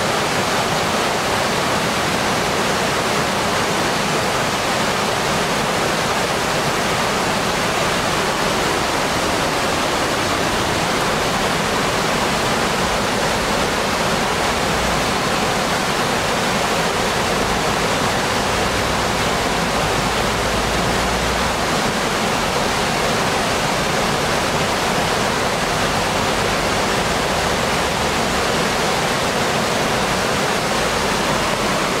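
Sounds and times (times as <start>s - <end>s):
waterfall and rapids rushing: 0.0s - 32.0s.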